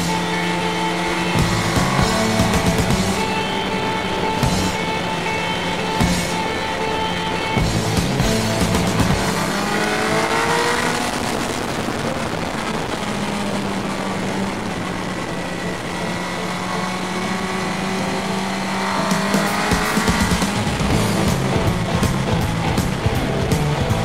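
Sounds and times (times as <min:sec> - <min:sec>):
motorcycle engine accelerating: 0:00.0 - 0:24.0
wind rush: 0:00.0 - 0:24.0.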